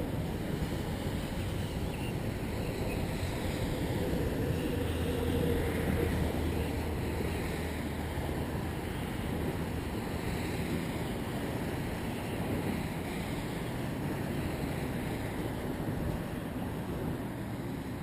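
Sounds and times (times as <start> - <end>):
road traffic: 0.0 - 18.0
wind rumbling on microphone: 0.0 - 18.0.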